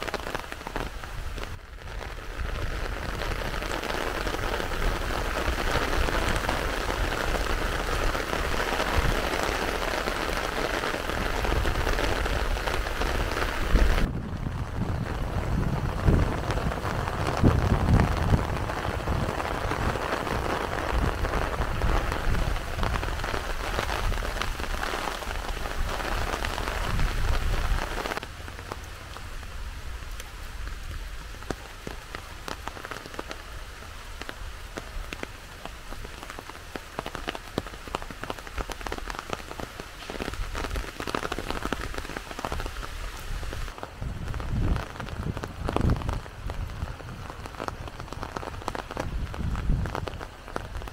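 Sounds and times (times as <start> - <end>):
heavy rain falling: 0.0 - 50.9
raindrops ticking close by: 0.0 - 50.9.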